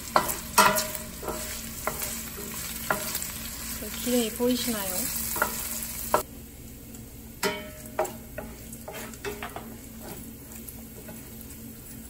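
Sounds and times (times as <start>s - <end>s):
bacon sizzling in a pan: 0.0s - 6.3s, 6.9s - 12.0s.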